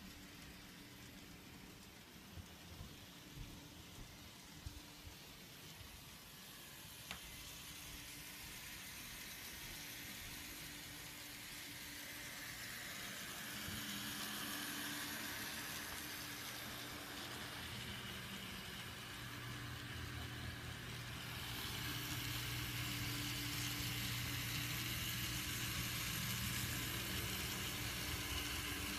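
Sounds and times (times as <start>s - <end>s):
model train hum and rumble: 0.0s - 28.9s.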